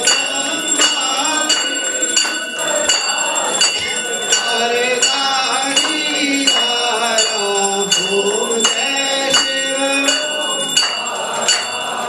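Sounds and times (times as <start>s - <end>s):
brass bell ringing: 0.0s - 12.0s
group singing: 0.0s - 12.0s.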